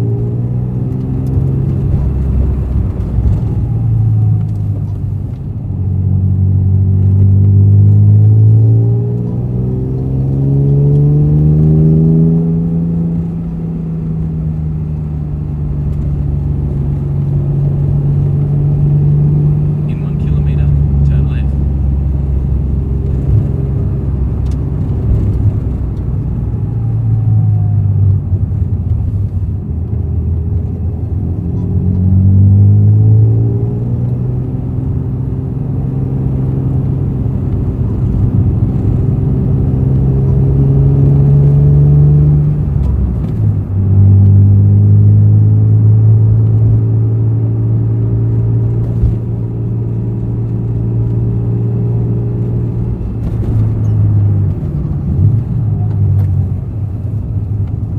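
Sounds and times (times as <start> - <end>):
car engine and exhaust while driving: 0.0 - 57.9.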